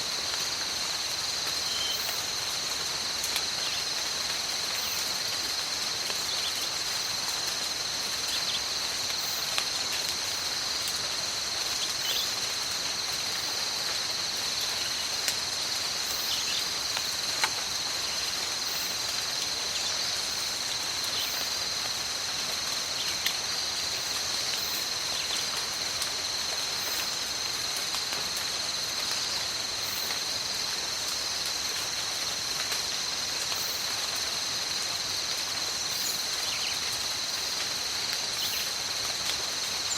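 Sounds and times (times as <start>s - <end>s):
insects chorus: 0.0s - 39.9s
rain in a forest: 0.0s - 39.9s.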